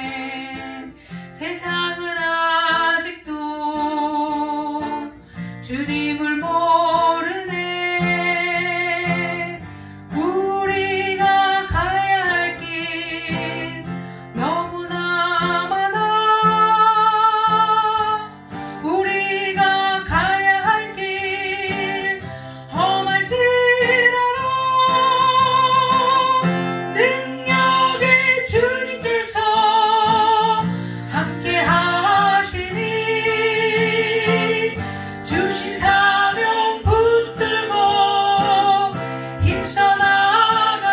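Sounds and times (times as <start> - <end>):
acoustic guitar: 0.0 - 40.9
woman singing with vibrato: 0.0 - 40.9.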